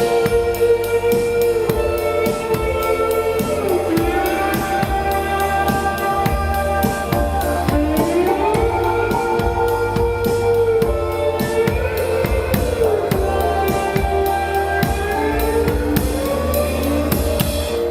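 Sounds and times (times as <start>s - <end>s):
drum kit beat: 0.0s - 17.9s
sliding melodic notes: 0.0s - 17.9s.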